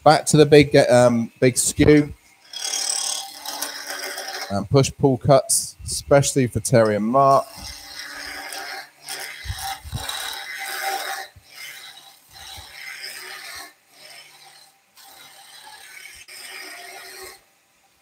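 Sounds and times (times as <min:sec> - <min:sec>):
chisel shaving wood on a lathe: 0:01.0 - 0:04.7, 0:06.7 - 0:17.5.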